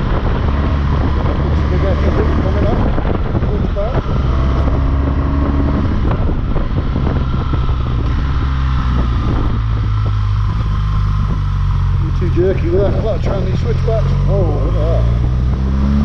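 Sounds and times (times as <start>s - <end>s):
motorcycle engine climbing: 0.0s - 16.0s
wind rushing over microphone: 0.0s - 16.0s.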